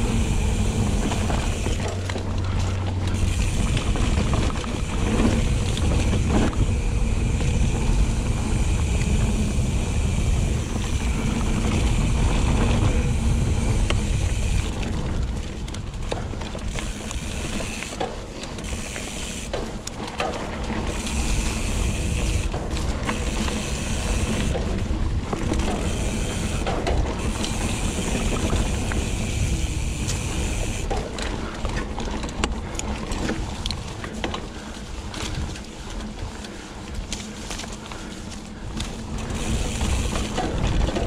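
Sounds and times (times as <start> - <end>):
bike clicks and rattles: 0.0 - 41.0
bike hub freewheel buzzing: 0.0 - 41.0
tyres rumbling over dirt: 0.0 - 41.0.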